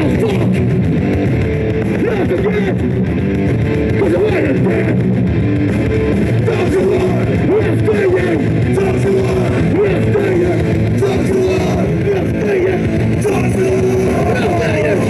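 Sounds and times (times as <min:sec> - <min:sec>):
distorted electric guitar bends: 0:00.0 - 0:15.0
punk rock band playing live: 0:00.0 - 0:15.0.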